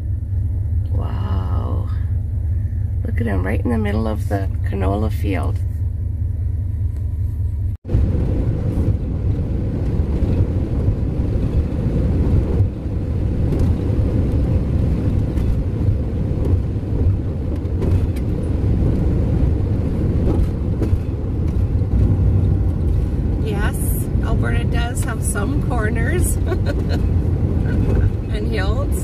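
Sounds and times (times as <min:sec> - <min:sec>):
van engine and road noise: 0:00.0 - 0:29.0.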